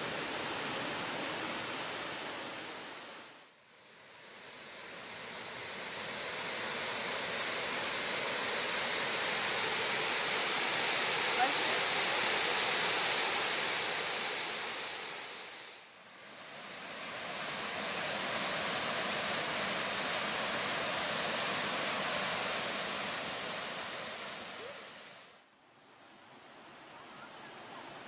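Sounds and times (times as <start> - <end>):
waterfall rushing: 0.0 - 3.4, 4.2 - 25.3.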